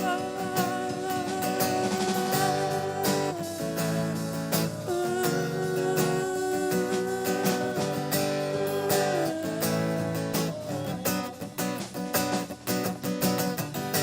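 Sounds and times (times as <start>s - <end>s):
long held notes: 0.0s - 11.9s
strummed acoustic guitar: 0.0s - 14.0s.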